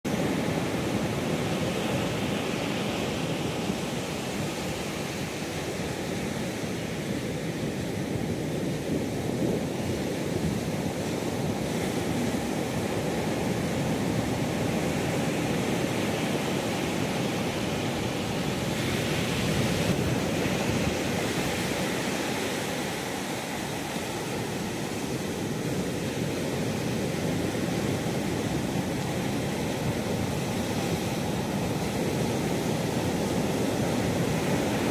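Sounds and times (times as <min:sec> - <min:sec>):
wind: 0:00.0 - 0:34.9
sea water rushing: 0:00.1 - 0:34.9.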